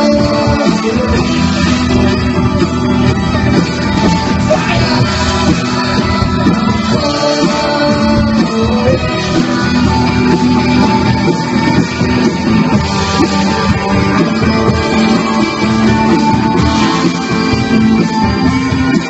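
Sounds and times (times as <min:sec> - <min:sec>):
live rock band: 0:00.0 - 0:19.0.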